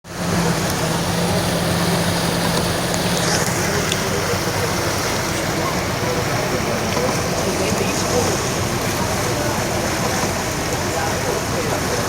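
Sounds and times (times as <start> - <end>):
boat engine running: 0.0 - 12.0
rushing noise: 0.1 - 12.0.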